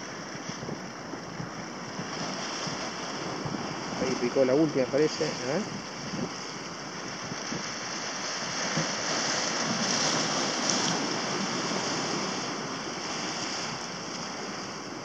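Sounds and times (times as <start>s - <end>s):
water lapping: 0.0s - 15.0s
wind on microphone: 0.0s - 15.0s.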